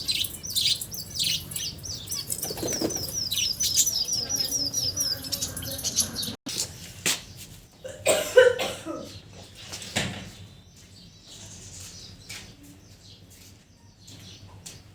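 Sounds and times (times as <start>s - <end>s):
cage birds calling: 0.0s - 14.9s.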